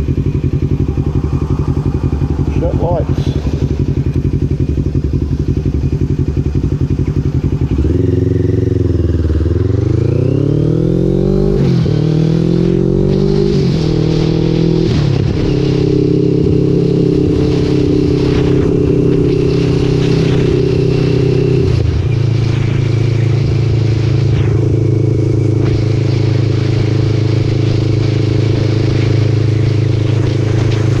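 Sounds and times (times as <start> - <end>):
motorcycle engine: 0.0 - 31.0.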